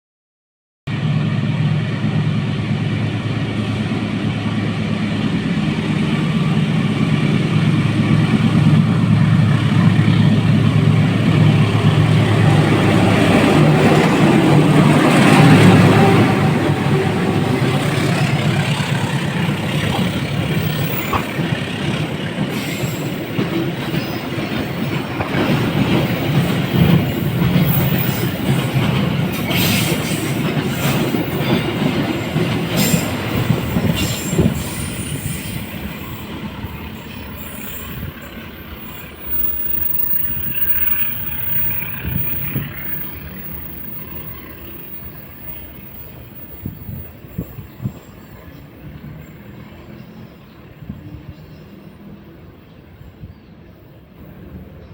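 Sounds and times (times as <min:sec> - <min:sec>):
train rolling on rails: 0:00.9 - 0:54.9.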